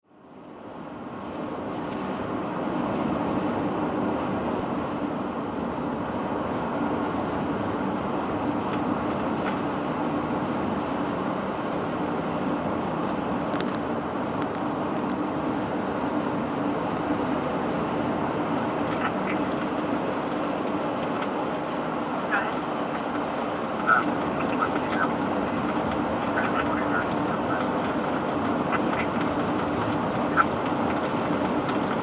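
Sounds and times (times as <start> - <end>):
vehicle engine rumble: 0.1 - 32.0.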